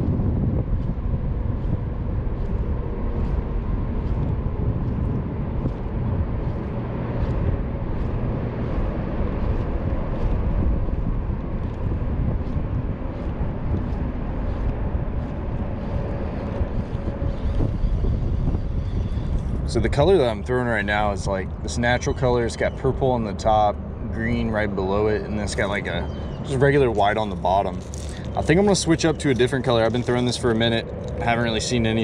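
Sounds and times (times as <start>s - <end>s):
faint steady hum: 0.0s - 32.0s
wind rumbling on microphone: 0.0s - 32.0s.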